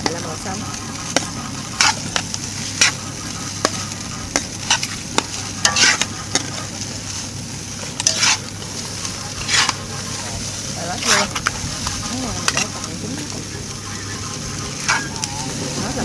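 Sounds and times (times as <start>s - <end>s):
utensil scraping and knocking pan: 0.0s - 7.0s, 7.8s - 15.2s
fried rice sizzling in a pan: 0.0s - 16.0s.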